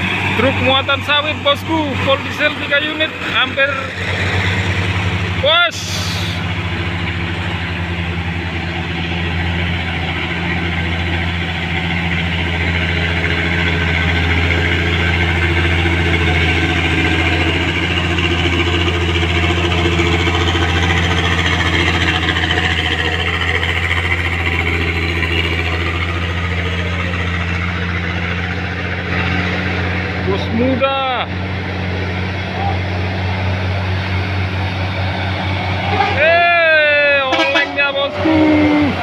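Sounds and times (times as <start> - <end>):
diesel truck engines droning: 0.0 - 39.0.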